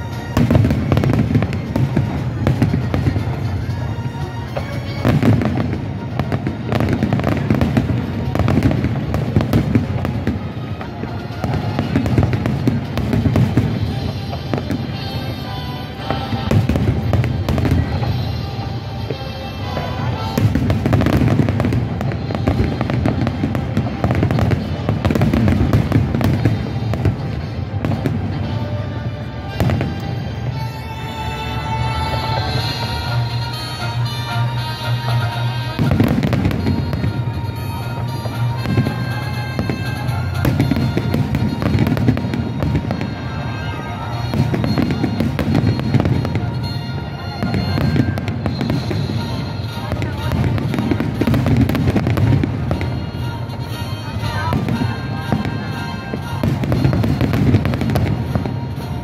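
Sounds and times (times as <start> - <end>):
fireworks bursting and crackling: 0.0 - 59.0
music playing: 0.0 - 59.0.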